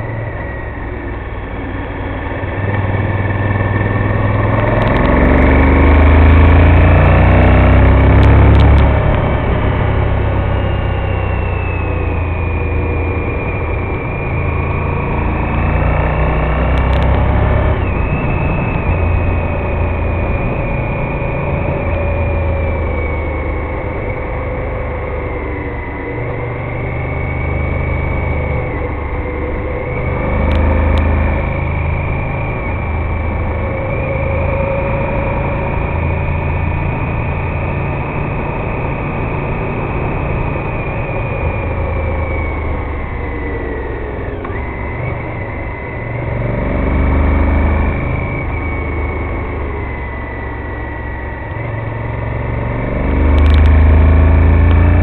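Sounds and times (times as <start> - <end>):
motorcycle engine revving: 0.0 - 55.0
wind noise: 0.0 - 55.0.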